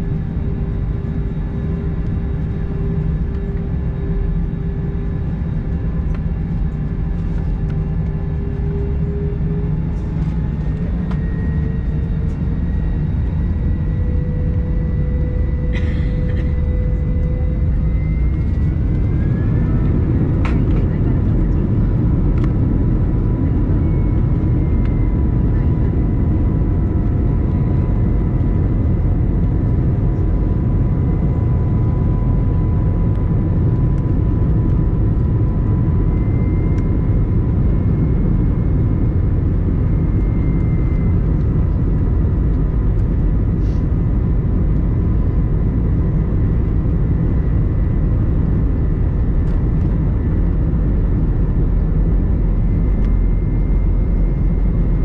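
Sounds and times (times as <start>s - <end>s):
engine and airflow rush: 0.0s - 55.0s.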